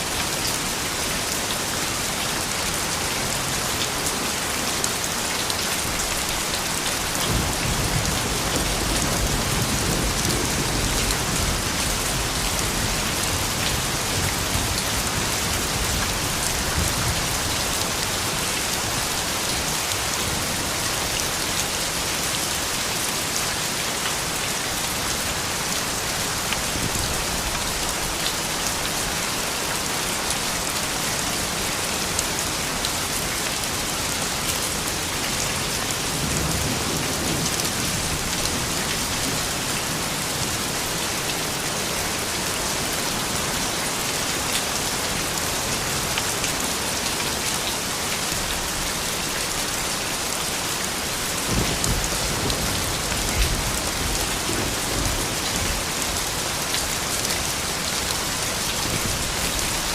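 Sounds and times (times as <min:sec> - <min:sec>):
gentle rain: 0:00.0 - 0:59.9.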